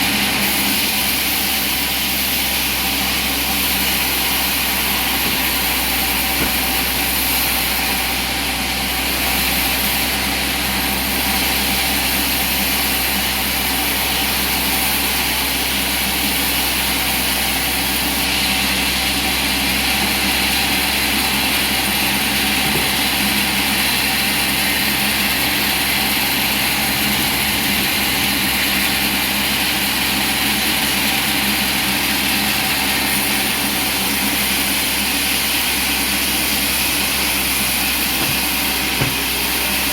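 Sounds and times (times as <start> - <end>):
heavy machinery drone: 0.0 - 39.9.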